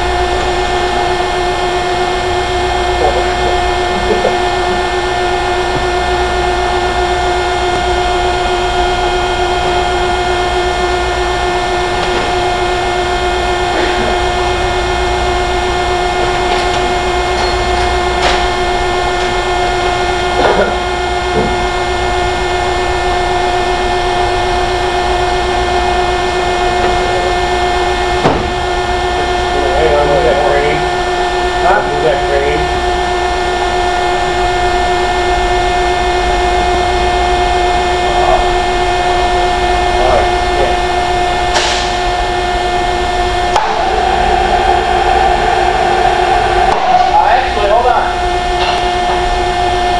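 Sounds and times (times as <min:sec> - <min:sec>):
industrial machinery humming: 0:00.0 - 0:49.9.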